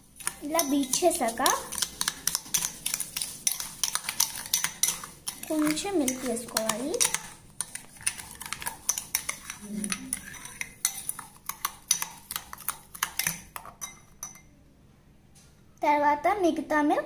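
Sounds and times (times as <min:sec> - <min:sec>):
utensil beating in a bowl: 0:00.0 - 0:14.5.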